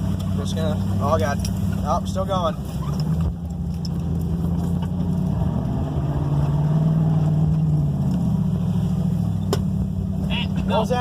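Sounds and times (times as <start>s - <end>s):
truck engine pulling through mud: 0.0s - 11.0s.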